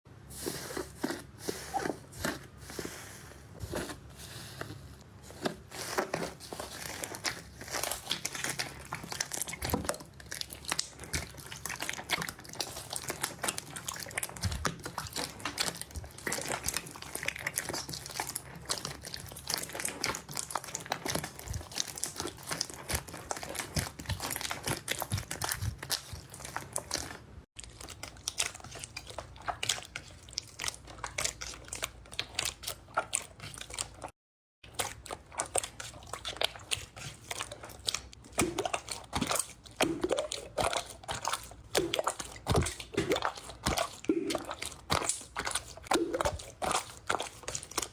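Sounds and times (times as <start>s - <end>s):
slime squeezed crackling and popping: 6.6s - 34.1s, 34.7s - 47.9s.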